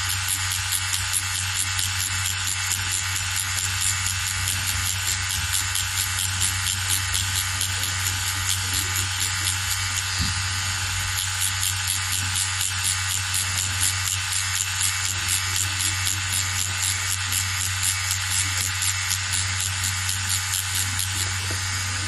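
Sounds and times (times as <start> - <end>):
tattoo machine buzzing: 0.0 - 22.0.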